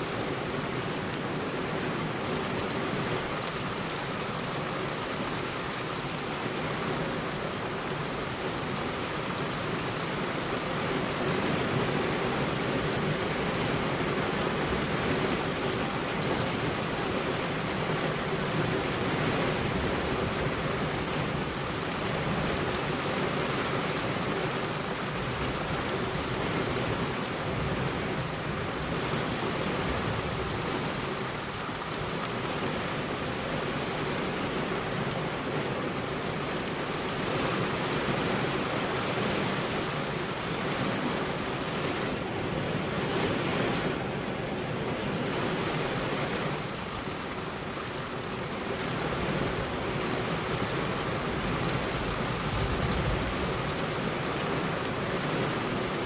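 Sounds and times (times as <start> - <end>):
heavy rain on a road: 0.0 - 56.0.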